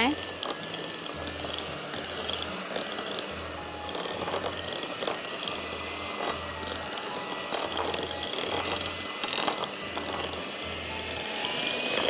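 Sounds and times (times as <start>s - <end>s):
beaters rattling against glass bowl: 0.0s - 11.2s
electric hand mixer whining: 0.0s - 12.0s.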